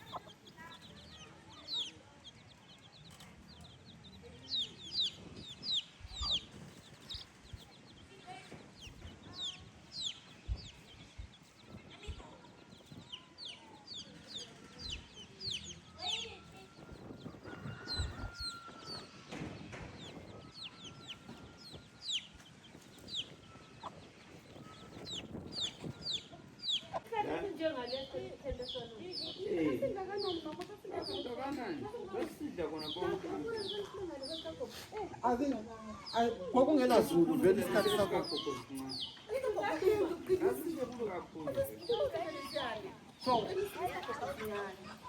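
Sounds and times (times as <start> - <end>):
chicks cheeping: 0.0 - 34.8, 35.9 - 45.0.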